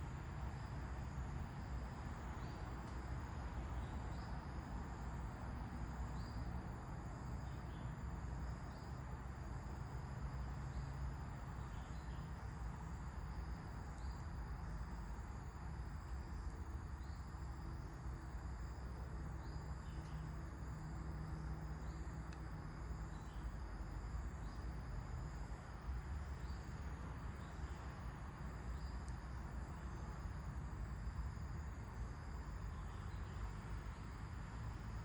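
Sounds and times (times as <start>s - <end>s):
insects trilling: 0.3s - 35.0s.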